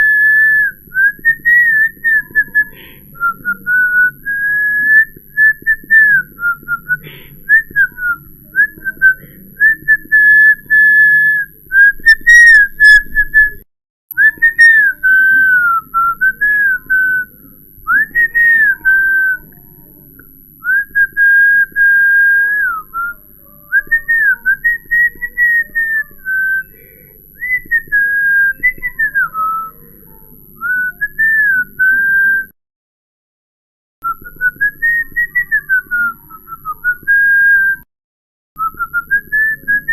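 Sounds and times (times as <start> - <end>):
person whistling: 0.0 - 17.3, 17.9 - 19.6, 20.6 - 23.2, 23.8 - 29.8, 30.6 - 32.6, 34.0 - 37.9, 38.6 - 39.9.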